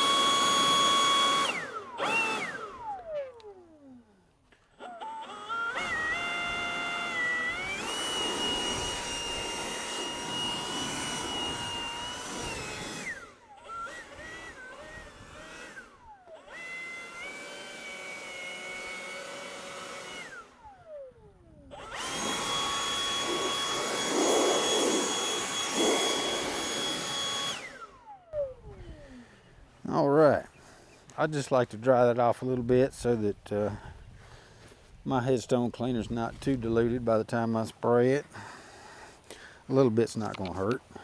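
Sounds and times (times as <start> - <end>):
handheld blower whine: 0.0 - 31.2, 38.2 - 41.0.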